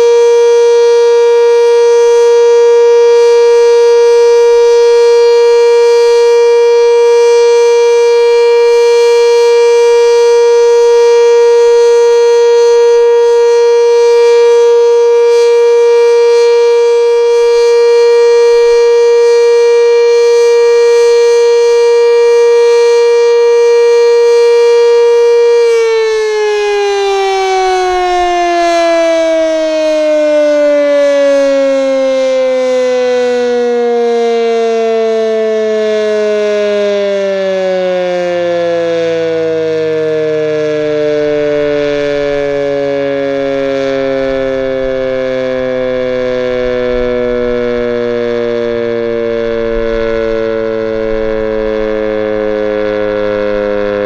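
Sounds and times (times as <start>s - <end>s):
siren winding down: 0.0s - 54.0s
tornado siren steady tone: 0.0s - 54.0s.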